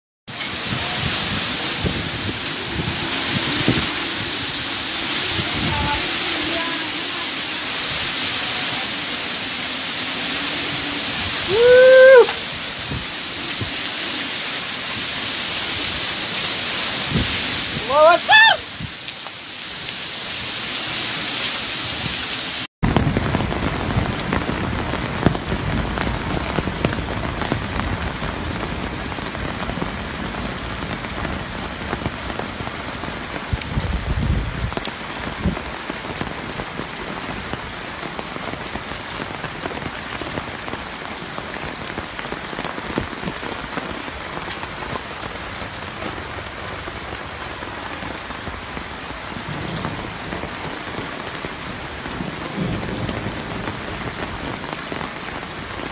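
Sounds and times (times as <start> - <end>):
heavy rain pouring: 0.3 - 55.9.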